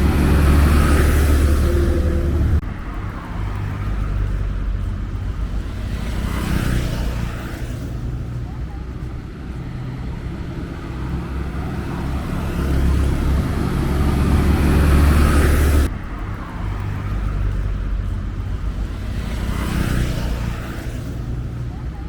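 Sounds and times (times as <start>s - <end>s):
vehicle passing: 0.0s - 22.0s.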